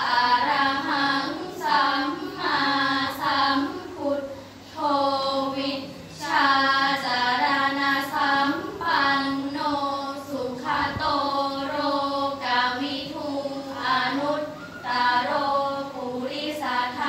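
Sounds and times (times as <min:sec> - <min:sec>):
girls chanting in unison: 0:00.0 - 0:17.0.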